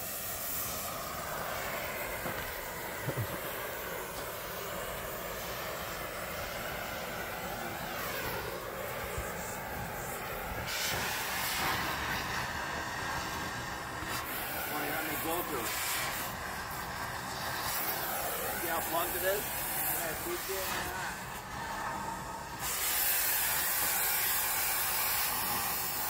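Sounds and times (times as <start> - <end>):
gas torch flame hissing: 0.0 - 26.0.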